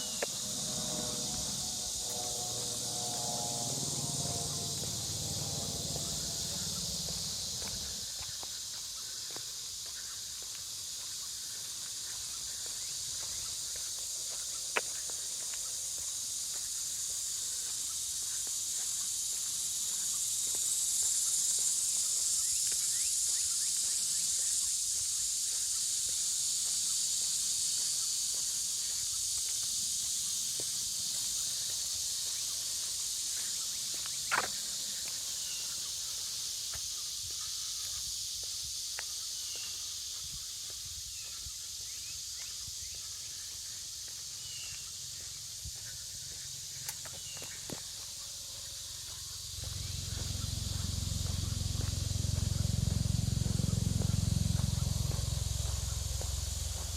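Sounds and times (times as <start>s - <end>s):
insect chorus drone: 0.0s - 56.9s.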